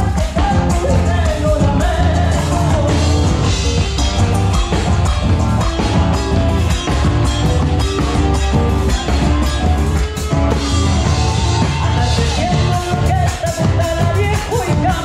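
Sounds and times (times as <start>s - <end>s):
person singing: 0.0s - 5.8s, 6.7s - 15.0s
rock band playing: 0.0s - 15.0s.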